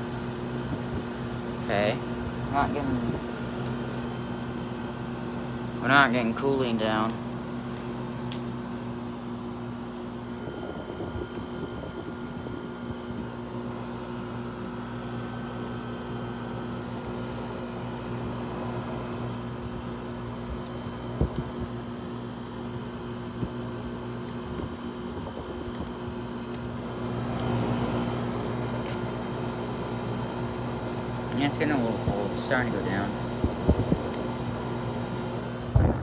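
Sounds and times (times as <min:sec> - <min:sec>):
air conditioner compressor hum: 0:00.0 - 0:36.0
fan air rushing: 0:00.0 - 0:36.0.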